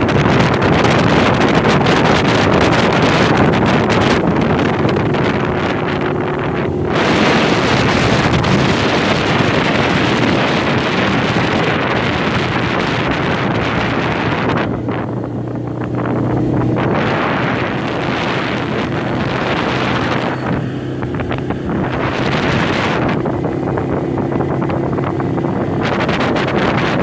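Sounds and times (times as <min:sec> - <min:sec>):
atv engine humming: 0:00.0 - 0:27.0
wind buffeting microphone: 0:00.0 - 0:27.0.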